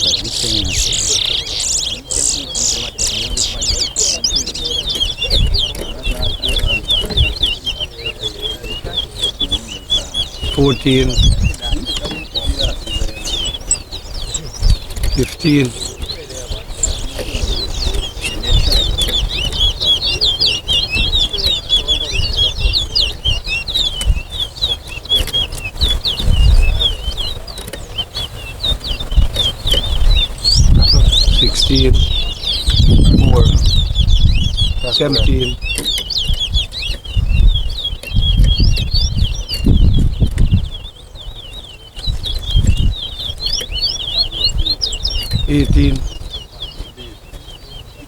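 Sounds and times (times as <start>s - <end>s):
finch singing whistled notes: 0.0s - 48.0s.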